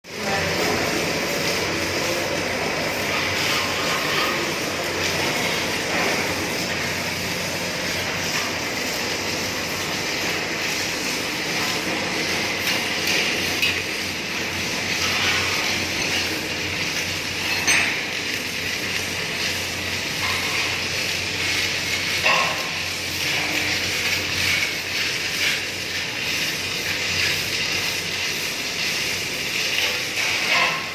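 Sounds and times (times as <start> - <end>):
welding hissing and crackling: 0.0 - 30.9.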